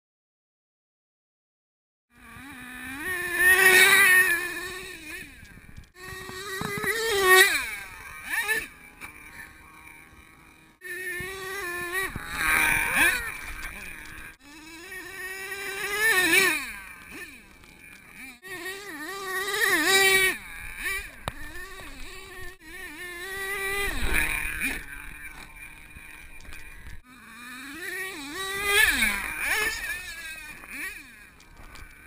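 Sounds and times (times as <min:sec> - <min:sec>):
small engine revving: 0:02.1 - 0:32.0.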